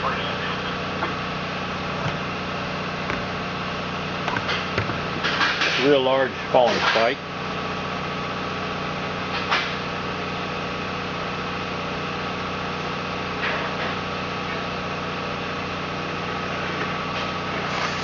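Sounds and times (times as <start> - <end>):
motor or fan humming: 0.0 - 18.0.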